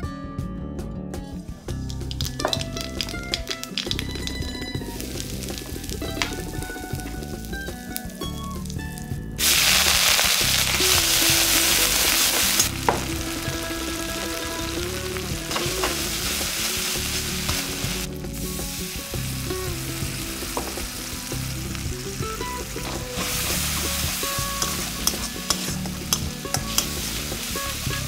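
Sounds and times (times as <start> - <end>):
paste sizzling in hot oil: 2.0 - 28.0.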